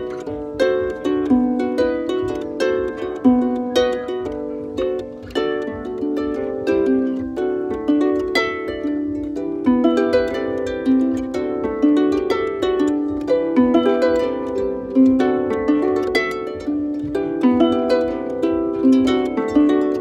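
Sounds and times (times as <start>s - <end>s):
harp plucked notes: 0.0s - 20.0s.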